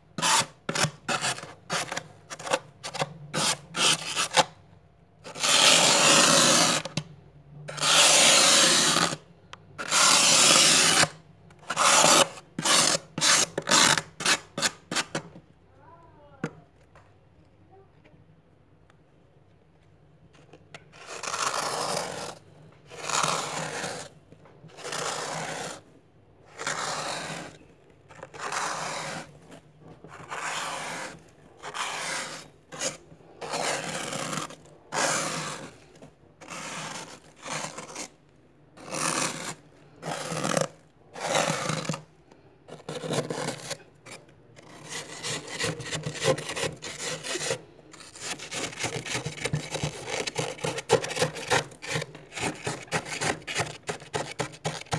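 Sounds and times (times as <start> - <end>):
plastic card scraping frost: 0.2 - 4.6, 5.2 - 7.1, 7.7 - 15.3, 20.3 - 38.2, 38.8 - 42.1, 42.7 - 54.9.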